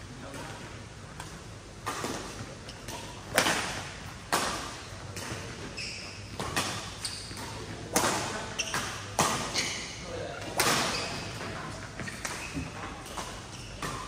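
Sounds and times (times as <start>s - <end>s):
rackets hitting shuttlecock: 1.2s - 5.6s, 6.3s - 9.6s, 10.4s - 14.0s.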